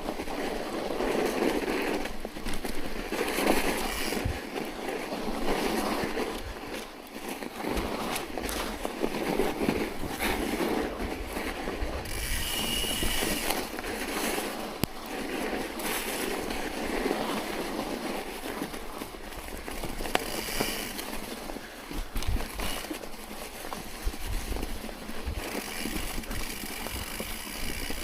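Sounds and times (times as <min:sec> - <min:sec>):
wheels working through snow: 0:00.0 - 0:28.0.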